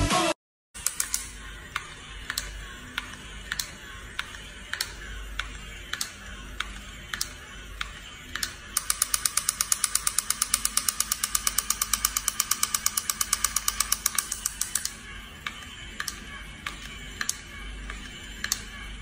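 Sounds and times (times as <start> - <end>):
toy mechanism clicking: 0.8 - 18.9.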